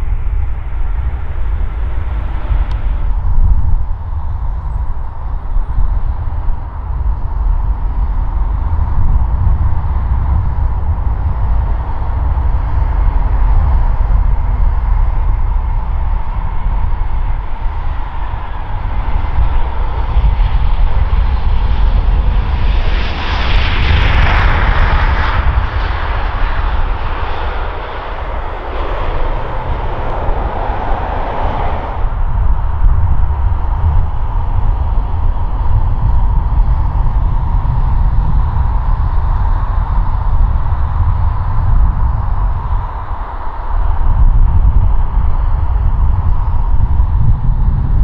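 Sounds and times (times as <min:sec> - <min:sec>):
jet engine rushing roar: 0:00.0 - 0:48.0
jet engine whine and rumble: 0:00.0 - 0:48.0.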